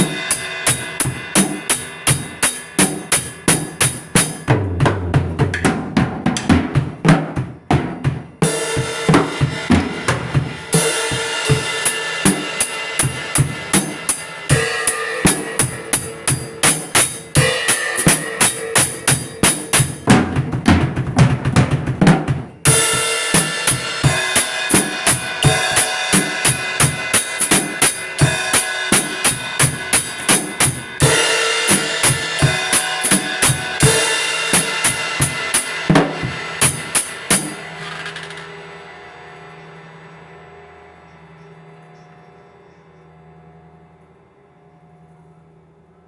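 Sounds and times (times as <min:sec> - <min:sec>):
cymbal crashes: 0:00.0 - 0:20.3, 0:22.6 - 0:41.7
drum kit fast beat: 0:00.0 - 0:38.4.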